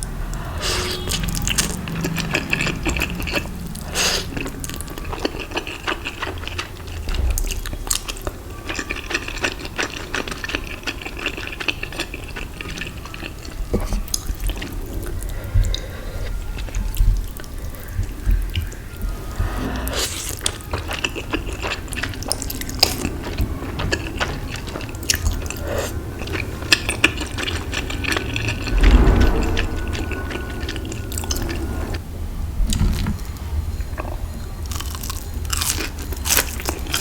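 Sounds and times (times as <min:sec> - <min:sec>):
wet chewing: 0:00.0 - 0:19.1, 0:19.9 - 0:32.0.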